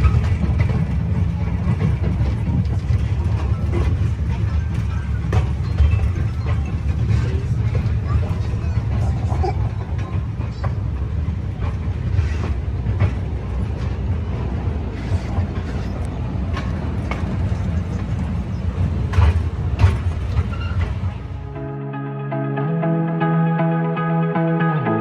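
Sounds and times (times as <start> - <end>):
wheels clicking and knocking: 0.0 - 21.3
train rumbling on track: 0.0 - 21.6.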